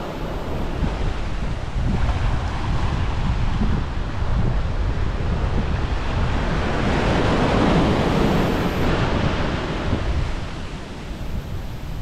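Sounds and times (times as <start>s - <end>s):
ocean wave breaking on beach: 0.0s - 3.5s, 5.7s - 12.0s.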